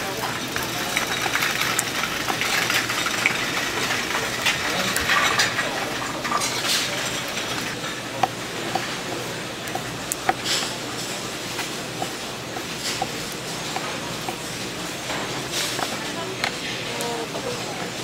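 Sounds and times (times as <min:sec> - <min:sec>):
busy market background noise: 0:00.0 - 0:18.0.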